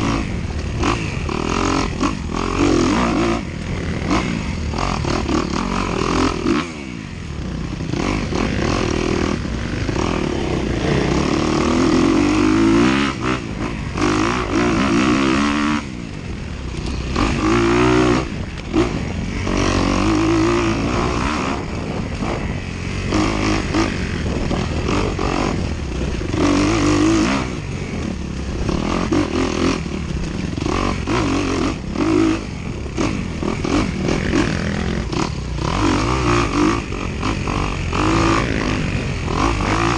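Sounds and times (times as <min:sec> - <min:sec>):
dirt bike engine revving: 0:00.0 - 0:39.9
rushing and rattling noise: 0:00.0 - 0:39.9.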